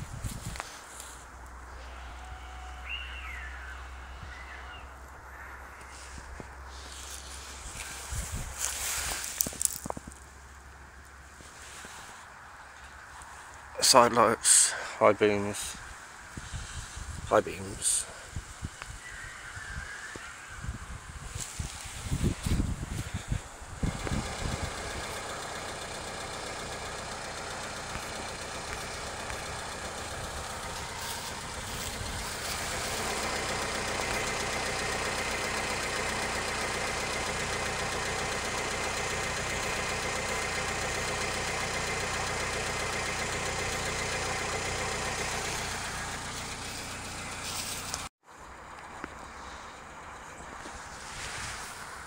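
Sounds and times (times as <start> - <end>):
car engine idling: 0.0 - 11.8, 21.8 - 52.0.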